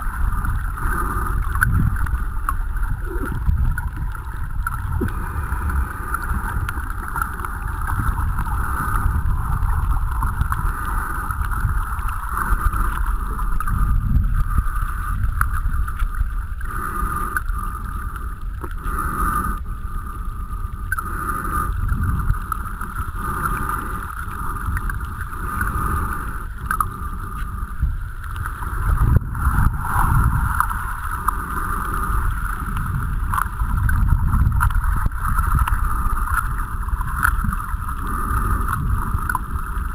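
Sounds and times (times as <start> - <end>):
muffled underwater rumble of water: 0.0 - 39.9.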